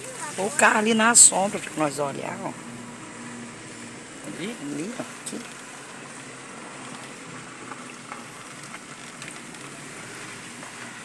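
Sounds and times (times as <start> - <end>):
low engine hum: 0.0 - 11.0
small crackles: 0.0 - 11.0
tyre and road noise: 0.0 - 11.0.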